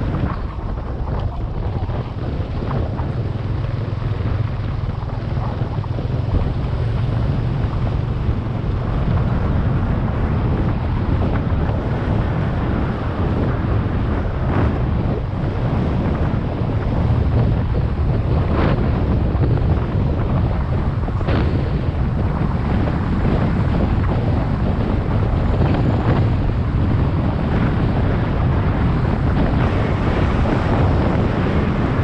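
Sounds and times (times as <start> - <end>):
low rumble: 0.0 - 32.0
wind buffeting microphone: 0.0 - 32.0.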